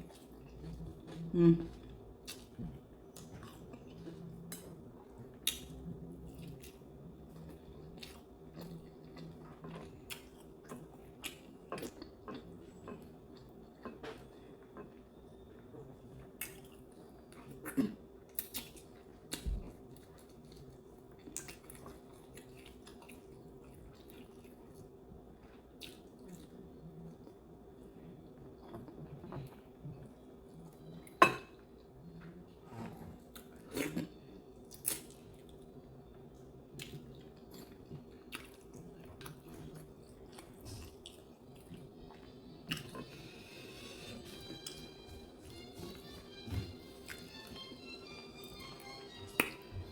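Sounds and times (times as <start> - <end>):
person chewing food: 0.0 - 27.4, 33.2 - 48.0
faint steady hum: 0.0 - 49.9.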